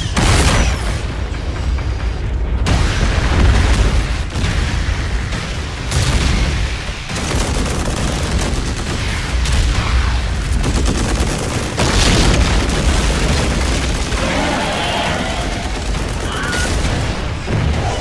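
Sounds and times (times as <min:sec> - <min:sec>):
low rumble of explosions: 0:00.0 - 0:18.0
rapid automatic gunfire: 0:03.2 - 0:18.0.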